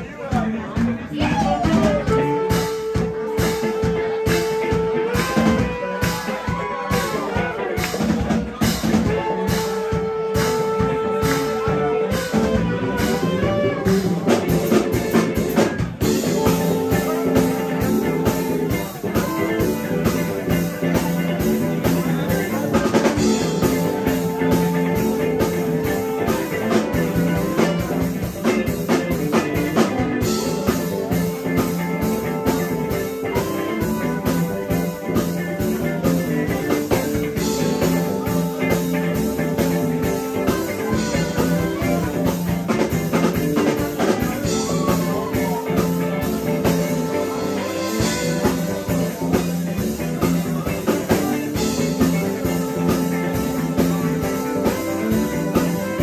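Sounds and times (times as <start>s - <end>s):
drum kit: 0.0s - 56.0s
electric bass: 0.0s - 56.0s
electric guitars: 0.0s - 56.0s
saxophone: 1.2s - 56.0s.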